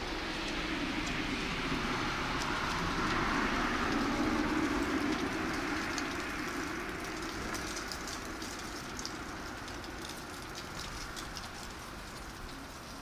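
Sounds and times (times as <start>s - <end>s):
passing vehicle rumble: 0.0s - 13.0s.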